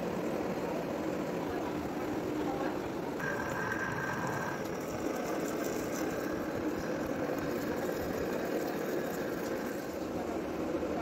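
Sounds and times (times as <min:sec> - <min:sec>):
metal lathe running: 0:00.0 - 0:11.0.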